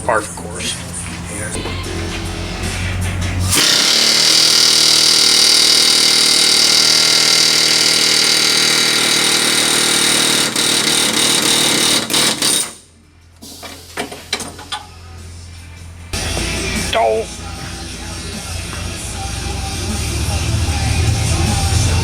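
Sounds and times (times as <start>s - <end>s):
power tool running: 1.6s - 13.6s, 16.2s - 22.0s.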